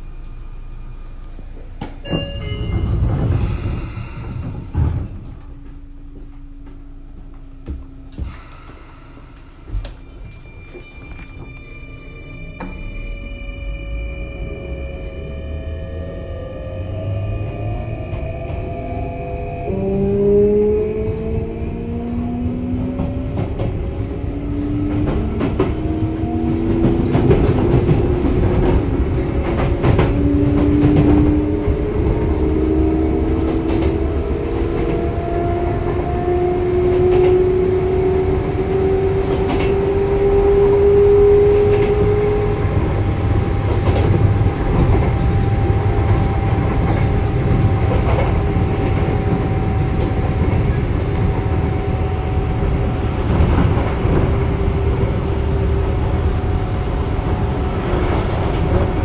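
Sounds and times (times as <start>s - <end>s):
low train rumble: 0.0s - 59.0s.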